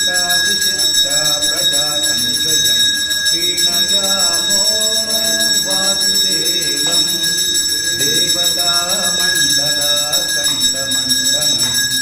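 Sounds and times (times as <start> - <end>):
bell ringing continuously: 0.0 - 12.0
men chanting: 0.0 - 12.0.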